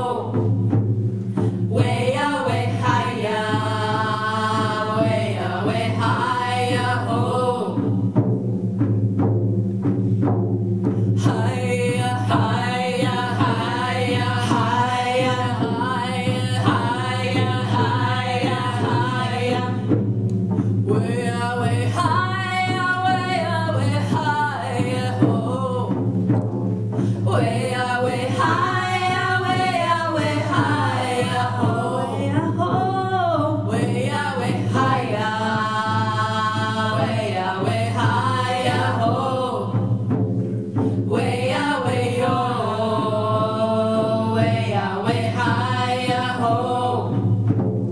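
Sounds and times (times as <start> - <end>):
women singing together: 0.0 - 8.2, 11.1 - 26.1, 26.9 - 40.2, 40.8 - 47.6
hand drums beaten: 0.0 - 47.9.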